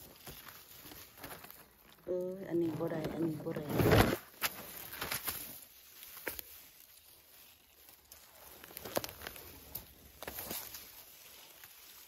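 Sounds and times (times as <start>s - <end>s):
rustling of leaf litter: 0.0s - 12.0s
twigs snapping: 0.0s - 12.0s.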